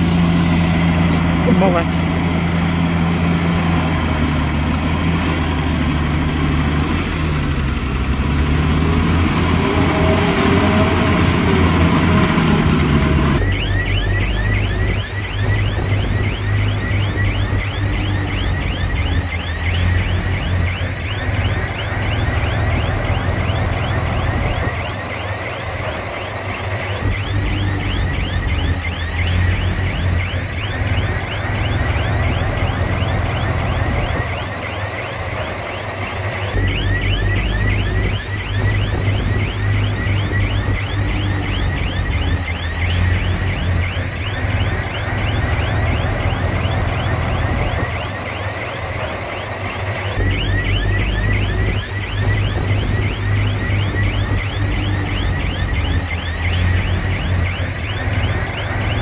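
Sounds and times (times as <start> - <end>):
heavy diesel machine engine: 0.0 - 59.0.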